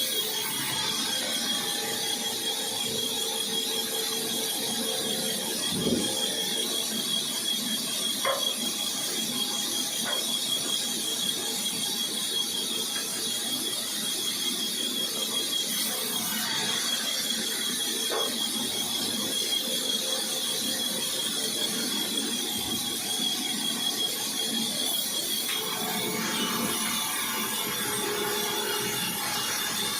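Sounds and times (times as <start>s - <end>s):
woodworking machine whining: 0.0s - 29.9s.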